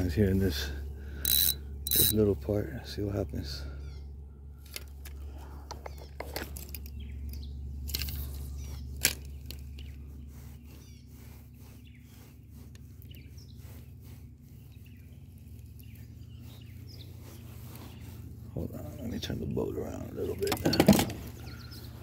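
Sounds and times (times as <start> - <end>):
low hum: 0.0 - 22.0
faint bird chirps: 3.4 - 4.6, 5.2 - 22.0.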